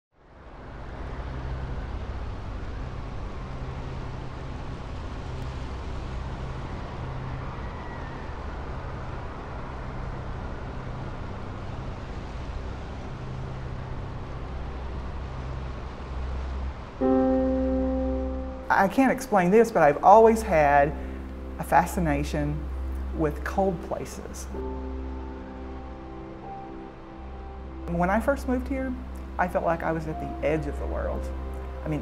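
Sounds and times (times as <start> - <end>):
low rumble: 0.6 - 32.0.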